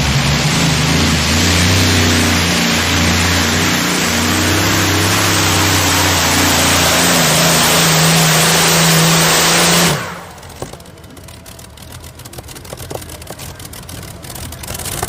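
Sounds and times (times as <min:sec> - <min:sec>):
tractor engine roaring: 0:00.0 - 0:15.0.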